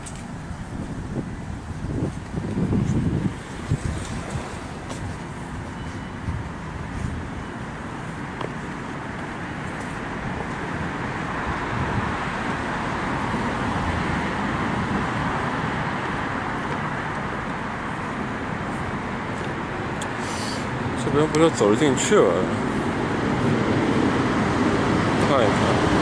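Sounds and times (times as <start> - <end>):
road traffic rushing: 0.0 - 26.0.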